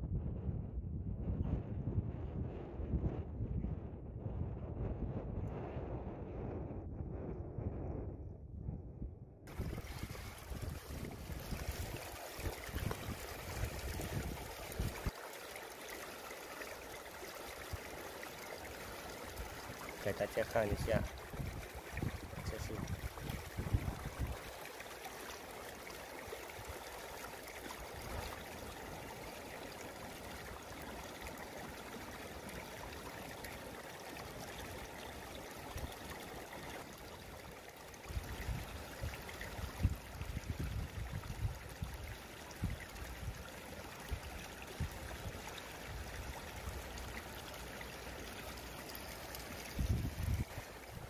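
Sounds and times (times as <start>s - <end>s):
seawater trickling: 9.5s - 51.0s.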